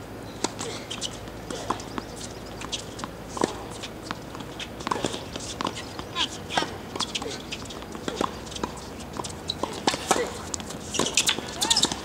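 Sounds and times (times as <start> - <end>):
sneakers squeaking on court: 0.3 - 12.0
tennis balls bouncing and struck: 0.4 - 12.0.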